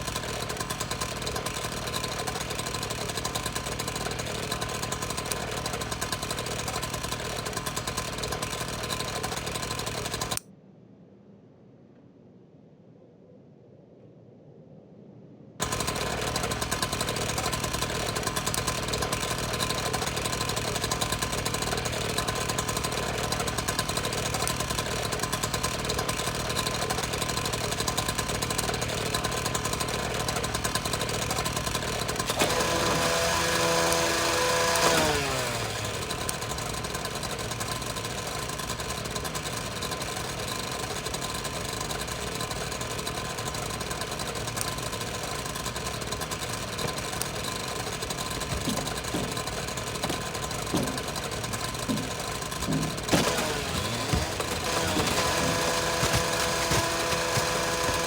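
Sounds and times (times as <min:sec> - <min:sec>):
small electric machine buzzing: 0:00.0 - 0:10.4, 0:15.6 - 0:58.0.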